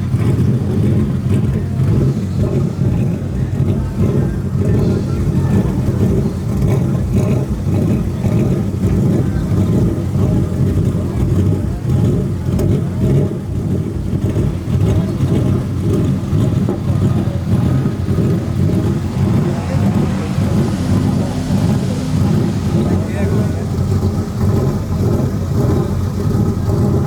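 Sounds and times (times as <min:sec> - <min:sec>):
truck engine revving hard: 0:00.0 - 0:27.0.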